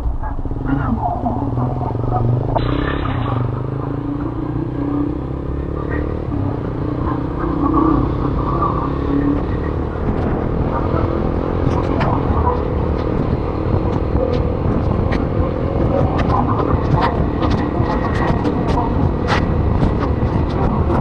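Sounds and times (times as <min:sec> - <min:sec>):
faint voices: 0:00.0 - 0:21.0
low engine hum: 0:00.0 - 0:21.0.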